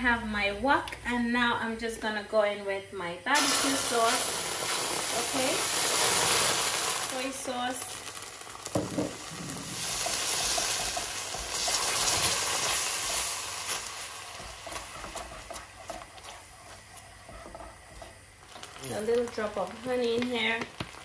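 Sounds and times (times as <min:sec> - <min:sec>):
sauce sizzling in a wok: 0:03.0 - 0:21.0.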